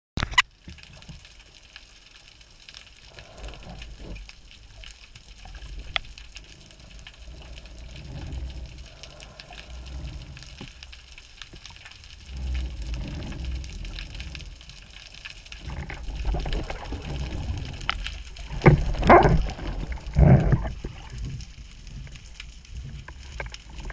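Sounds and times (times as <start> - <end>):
faint underwater clicks and crackles: 0.2 - 23.9
underwater swell rumble: 2.9 - 23.9.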